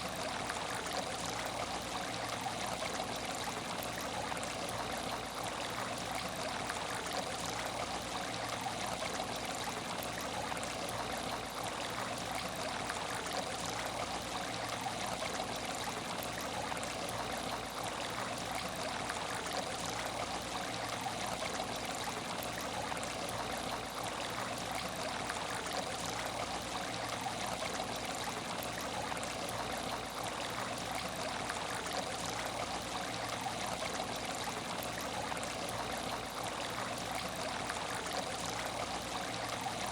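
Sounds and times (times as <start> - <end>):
aquarium water trickling: 0.0 - 39.9.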